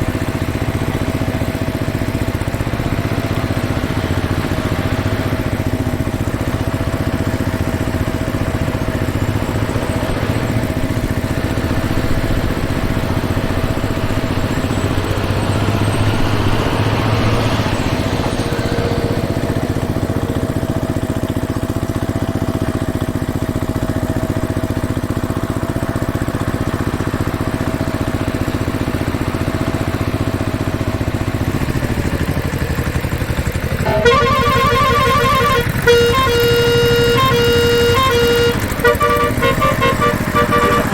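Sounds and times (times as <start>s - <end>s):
pulsing horn toots: 0.0s - 26.1s, 33.4s - 40.9s
engine idling: 0.0s - 40.9s.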